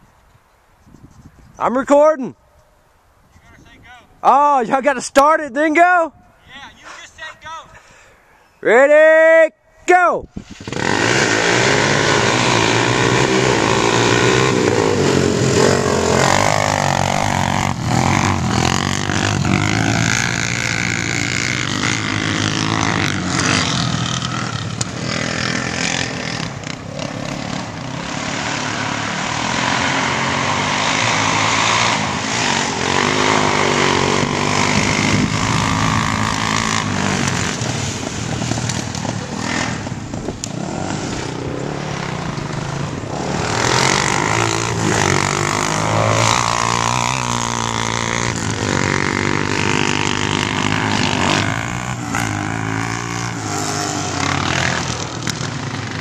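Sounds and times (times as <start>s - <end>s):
atv engines revving: 4.2s - 9.4s, 10.5s - 56.0s.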